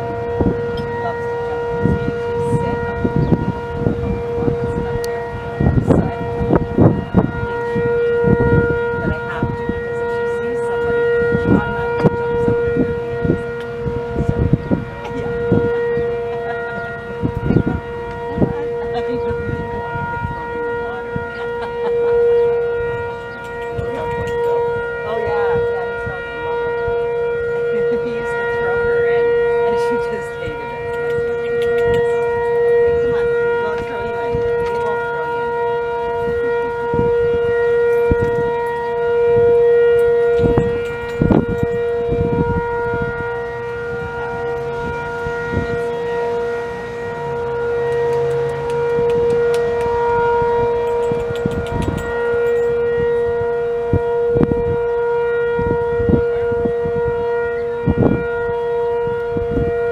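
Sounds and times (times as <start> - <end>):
tornado siren steady tone: 0.0 - 59.9.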